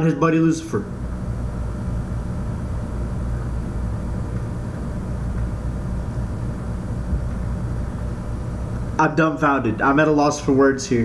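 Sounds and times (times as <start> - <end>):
steady low rumble: 0.7 - 11.0.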